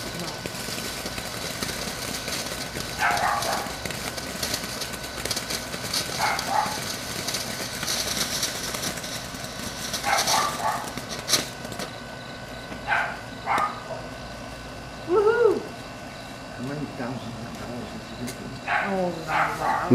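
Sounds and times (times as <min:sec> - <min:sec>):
firework fizzing and crackling: 0:00.0 - 0:19.9.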